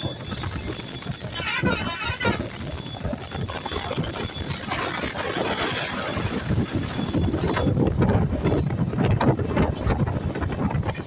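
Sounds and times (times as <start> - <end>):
train rumble and clatter: 0.0 - 11.0.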